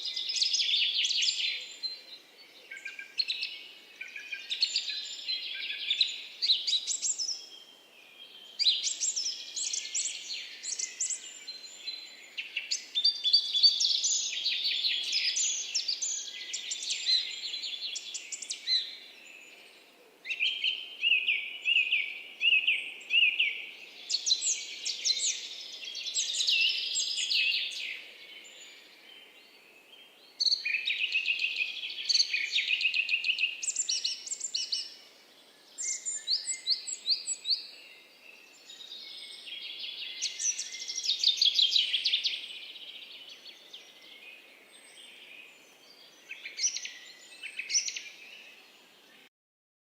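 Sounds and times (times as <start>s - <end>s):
songbirds chirping and trilling: 0.0s - 49.3s.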